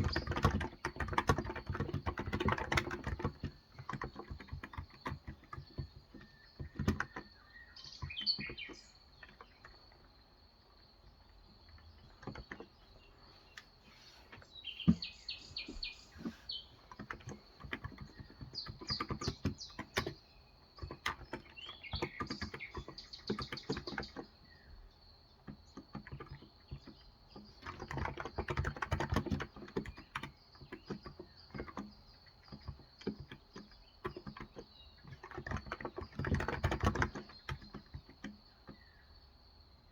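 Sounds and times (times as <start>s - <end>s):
keyboard keys clacking: 0.0s - 10.3s, 11.0s - 24.4s, 25.4s - 38.8s
birds chirping: 0.0s - 39.9s.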